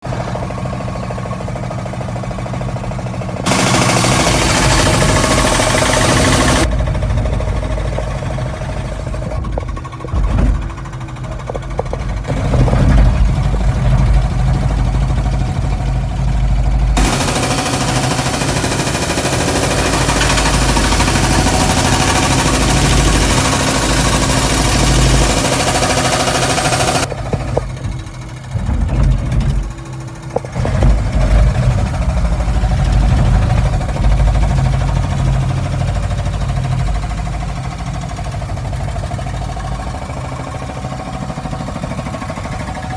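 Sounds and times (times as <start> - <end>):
diesel engine running: 0.0 - 42.9
hydraulic rock breaker hammering: 3.4 - 16.4, 17.0 - 42.9.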